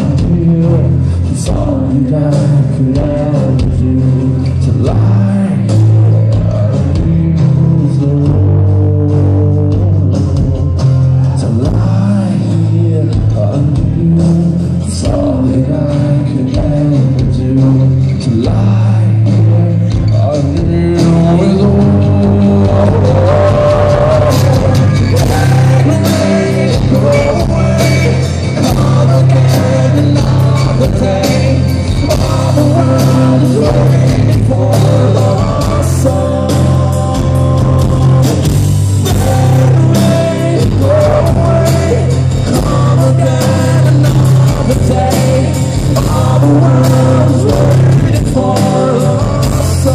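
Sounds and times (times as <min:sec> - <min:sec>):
bass: 0:00.0 - 0:49.9
drums and cymbals: 0:00.0 - 0:49.9
person singing lead vocal: 0:00.0 - 0:49.9
strummed acoustic guitars: 0:00.0 - 0:49.9.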